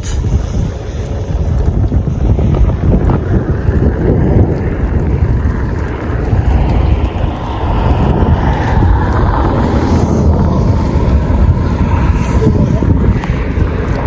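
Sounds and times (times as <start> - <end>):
wind gusting across microphone: 0.0 - 14.0.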